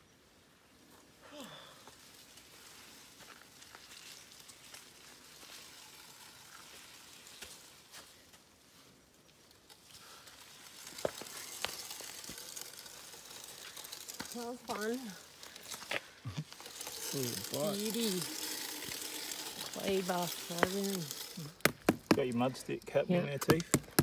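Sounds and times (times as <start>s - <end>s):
faint crackling hiss: 0.0s - 24.0s
bicycle tyres squelching through mud: 0.8s - 22.8s.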